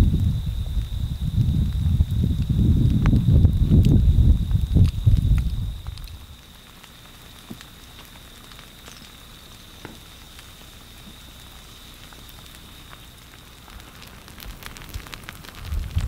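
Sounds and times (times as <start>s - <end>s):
lava crust crackling and ticking: 0.0s - 16.0s.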